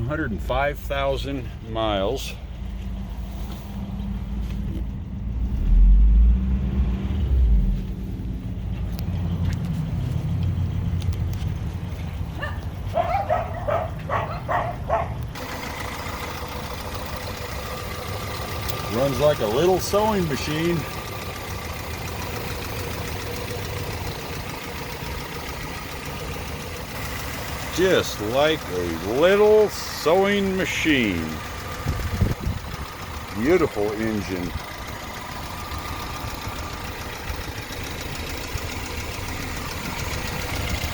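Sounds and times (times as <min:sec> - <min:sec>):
pickup truck engine idling: 0:00.0 - 0:05.4, 0:07.4 - 0:40.9.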